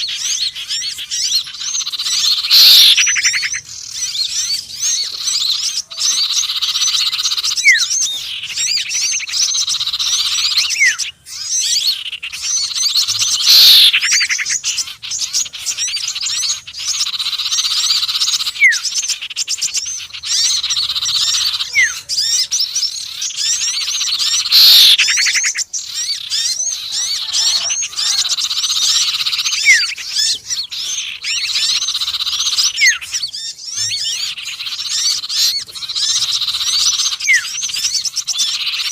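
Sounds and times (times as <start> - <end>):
high twittering bird chirps: 0.0 - 38.9
loud sweeping bird call: 0.0 - 38.9.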